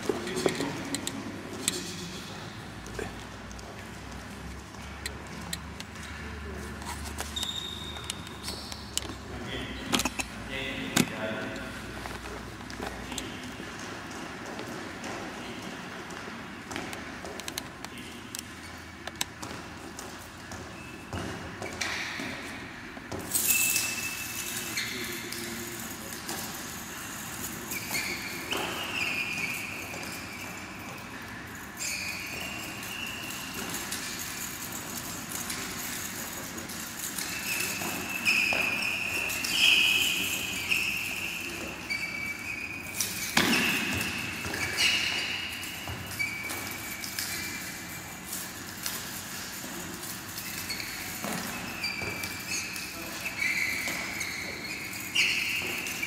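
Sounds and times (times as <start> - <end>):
shoes squeaking on floor: 0.0 - 56.0.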